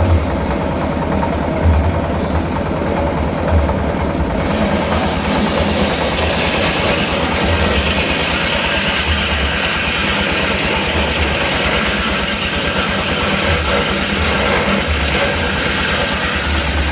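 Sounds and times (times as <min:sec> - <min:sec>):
engine running with pulsing beat: 0:00.0 - 0:16.9.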